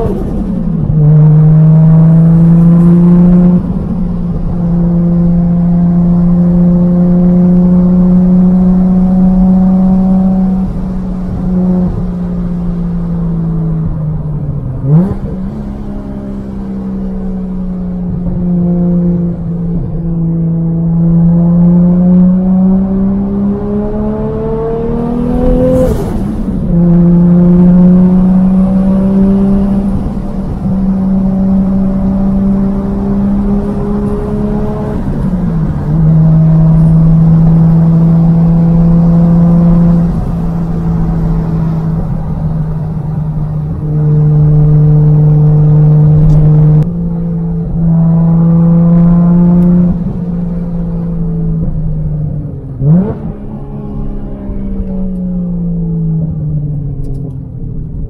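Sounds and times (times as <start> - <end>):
car engine droning while driving: 0.0 - 58.0.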